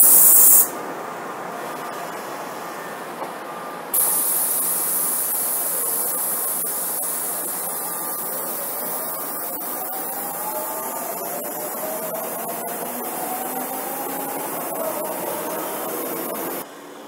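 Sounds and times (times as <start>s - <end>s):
steady high hiss: 0.0s - 3.2s, 3.8s - 17.0s
electric train moving: 0.9s - 17.0s.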